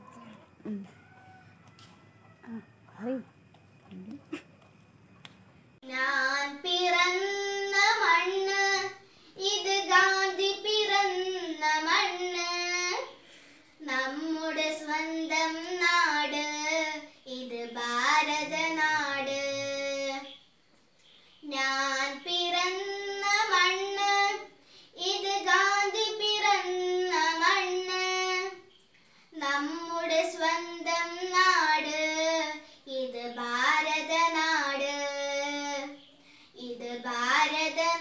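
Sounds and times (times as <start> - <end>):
girl singing unaccompanied: 5.8 - 20.4, 21.0 - 38.0.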